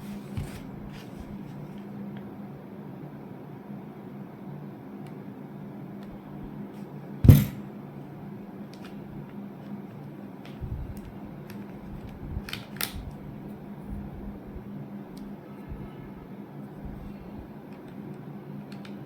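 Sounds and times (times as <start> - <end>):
steady low hum: 0.0 - 18.8.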